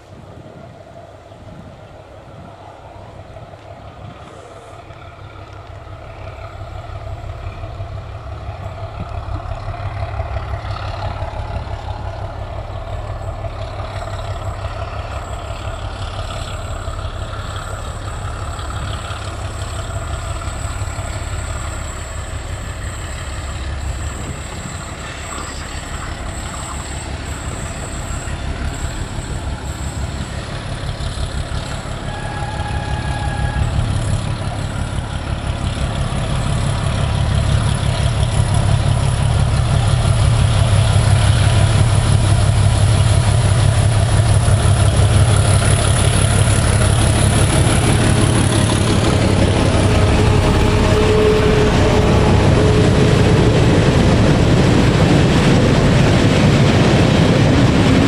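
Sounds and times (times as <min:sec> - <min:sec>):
diesel locomotive engine throbbing: 0:00.0 - 0:58.0.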